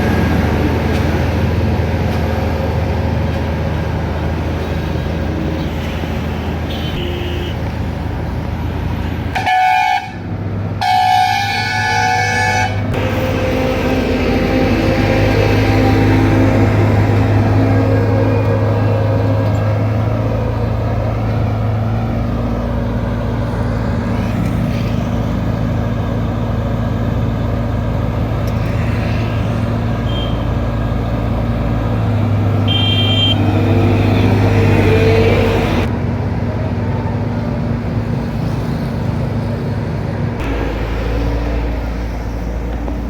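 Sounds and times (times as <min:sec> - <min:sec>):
heavy machinery engines humming: 0:00.0 - 0:43.0.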